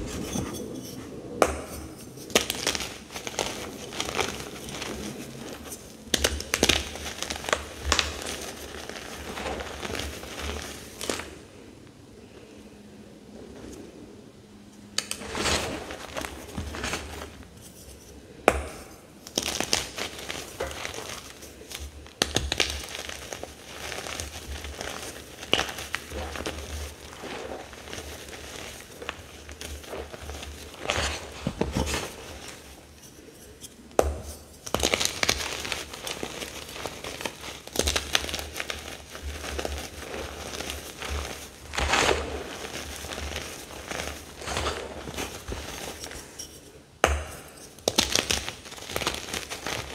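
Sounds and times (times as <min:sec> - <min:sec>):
chalk crunching and crackling: 0:00.0 - 0:11.4, 0:15.0 - 0:49.9.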